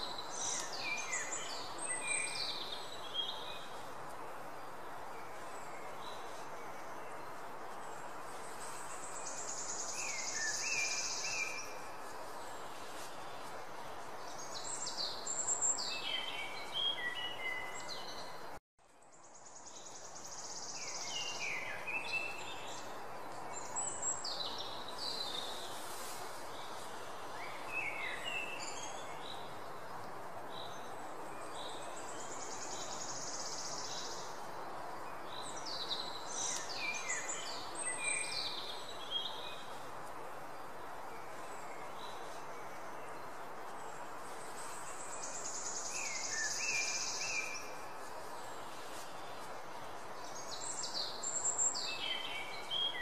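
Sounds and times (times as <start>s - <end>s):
background hiss: 0.0s - 53.0s.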